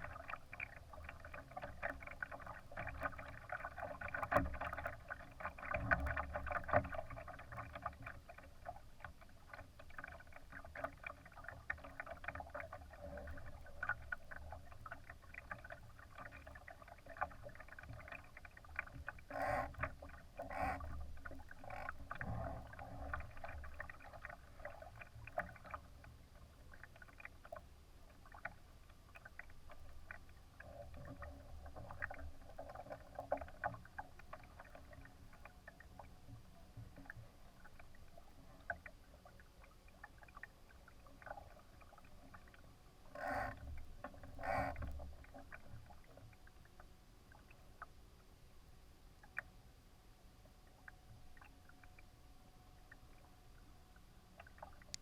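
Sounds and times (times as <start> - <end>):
water splashing against boat hull: 0.0 - 48.0.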